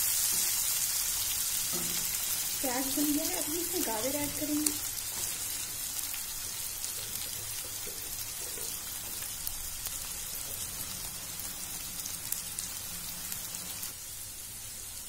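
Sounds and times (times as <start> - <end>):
vegetables sizzling in hot fat: 0.0 - 15.0.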